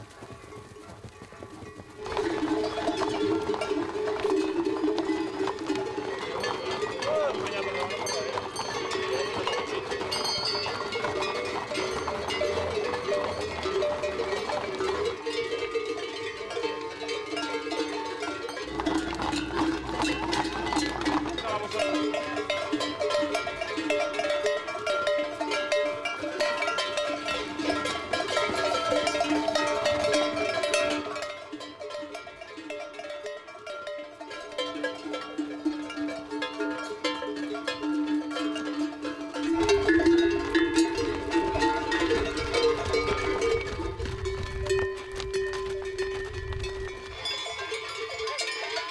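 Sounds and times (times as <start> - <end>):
horse bells clanking and ringing: 0.0 - 48.9.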